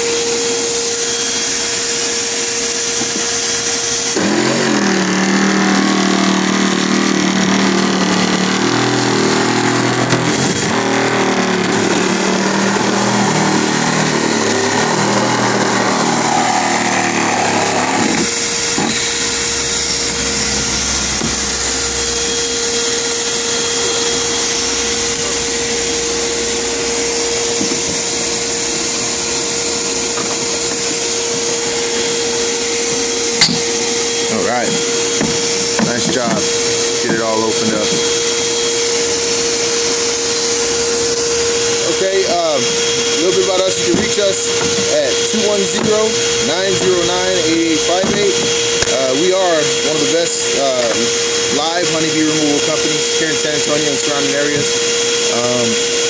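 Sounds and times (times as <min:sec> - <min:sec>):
low-pitched machine sound: 0:00.0 - 0:56.0
vacuum motor whine: 0:00.0 - 0:56.0.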